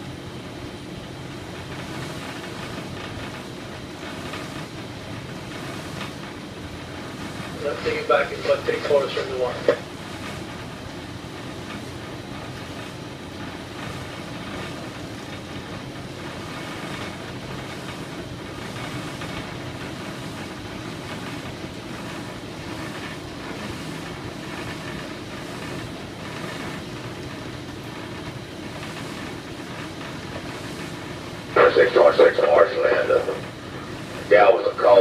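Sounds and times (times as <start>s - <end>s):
low mechanical rumble: 0.0s - 35.0s.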